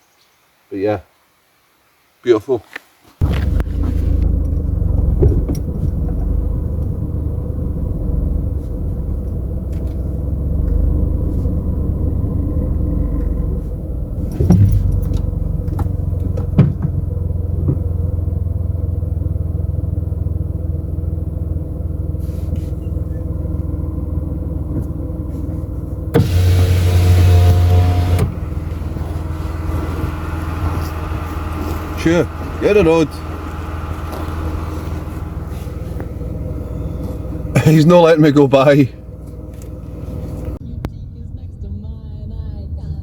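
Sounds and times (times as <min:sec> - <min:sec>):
car engine and road rumble: 0:03.2 - 0:43.0.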